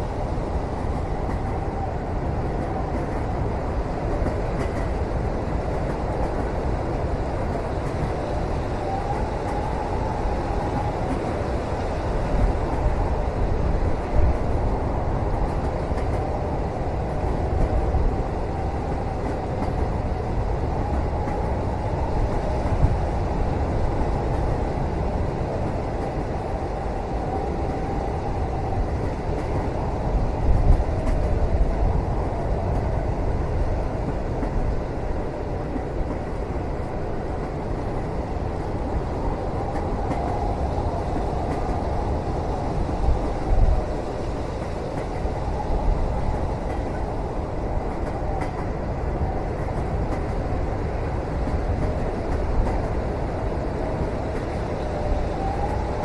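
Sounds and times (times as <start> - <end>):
train rumble inside cabin: 0.0 - 56.0.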